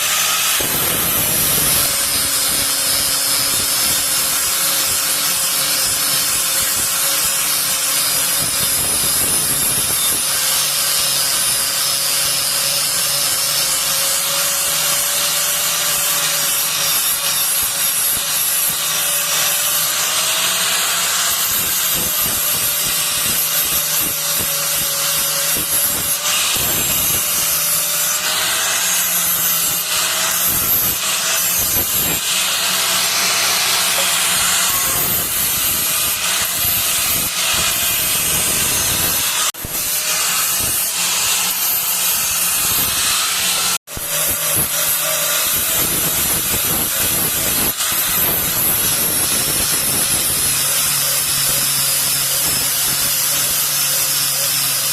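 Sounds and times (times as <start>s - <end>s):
steel grinding hiss: 0.0s - 54.9s.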